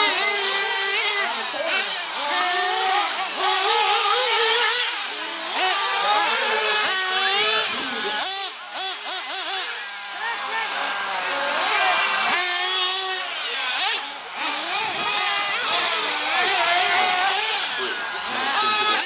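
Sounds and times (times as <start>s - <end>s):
rc car engines screaming: 0.0s - 19.0s.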